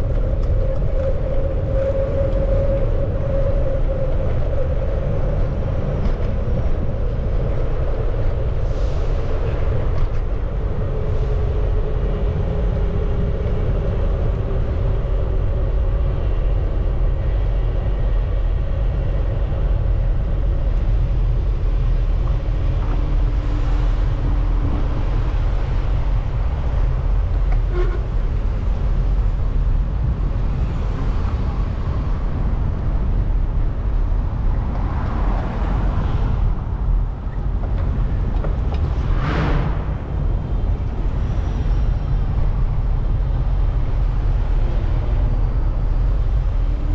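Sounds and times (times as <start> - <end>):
wind on microphone: 0.0 - 46.9
street traffic passing: 4.2 - 46.9.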